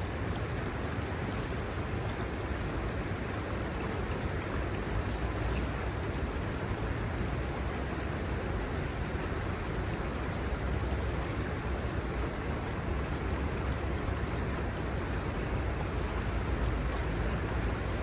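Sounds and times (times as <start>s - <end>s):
river water rushing over shallows: 0.0s - 18.0s.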